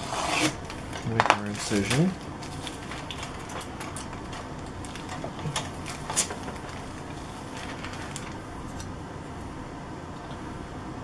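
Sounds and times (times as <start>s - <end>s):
plastic bag crinkling: 0.0s - 8.9s
steady background hum: 0.0s - 11.0s.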